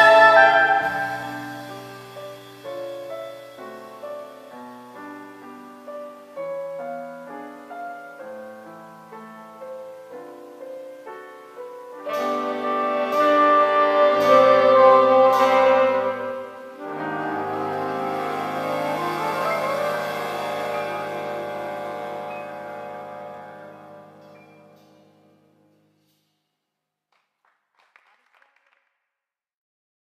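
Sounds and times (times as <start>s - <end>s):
quiet piano solo: 0.0s - 25.7s
jazz band held chords: 0.0s - 25.9s.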